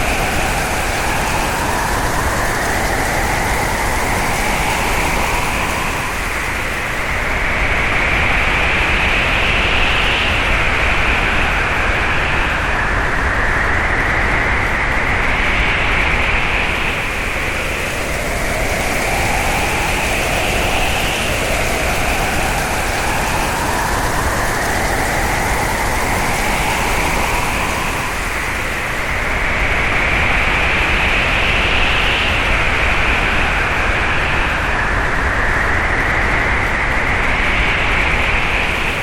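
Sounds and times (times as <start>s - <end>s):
strong wind rushing and whistling: 0.0s - 39.0s.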